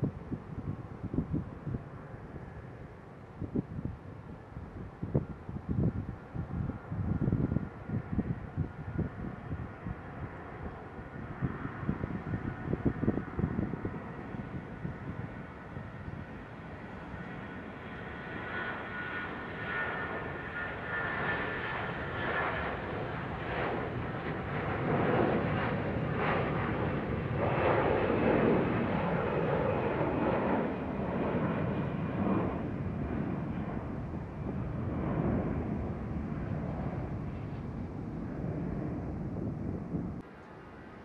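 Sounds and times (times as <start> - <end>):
jet engines whining at takeoff: 0.0 - 41.0.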